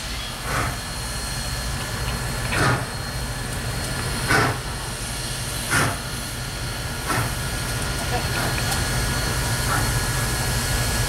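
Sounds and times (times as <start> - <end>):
steam locomotive exhaust chuffs: 0.0 - 11.0.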